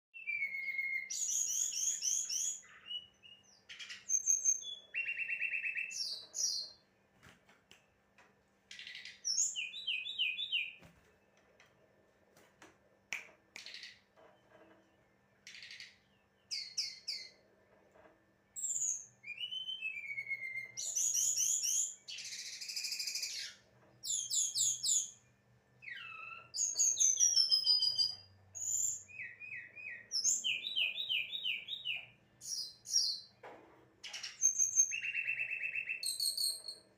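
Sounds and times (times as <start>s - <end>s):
songbird singing: 0.2s - 12.2s, 13.0s - 17.5s, 18.4s - 36.9s.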